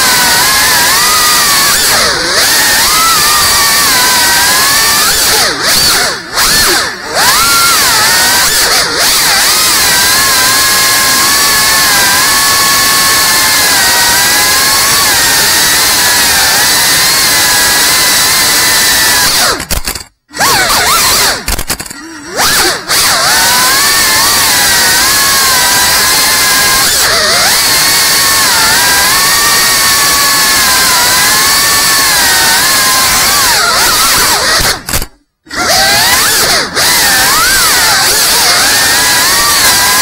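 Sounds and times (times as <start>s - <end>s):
drone motors whining: 0.0s - 40.0s.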